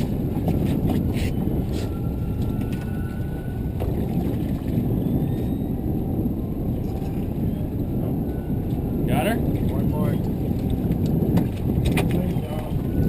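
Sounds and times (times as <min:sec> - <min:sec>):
boat motor rumbling: 0:00.0 - 0:13.0
wind and water noise: 0:00.0 - 0:13.0.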